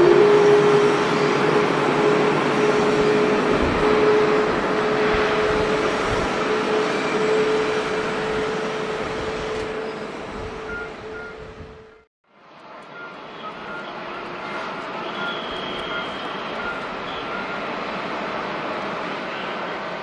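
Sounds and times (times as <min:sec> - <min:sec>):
jet engines running: 0:00.0 - 0:12.1, 0:12.7 - 0:20.0.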